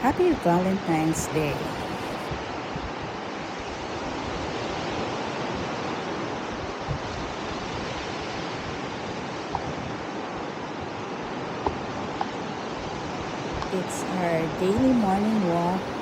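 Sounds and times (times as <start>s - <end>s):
sea surf on a beach: 0.0s - 16.0s.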